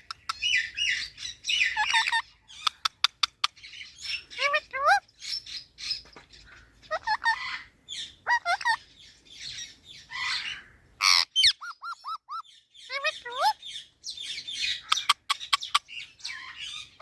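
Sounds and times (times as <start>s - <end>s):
parrot squawking and chirping: 0.0s - 17.0s.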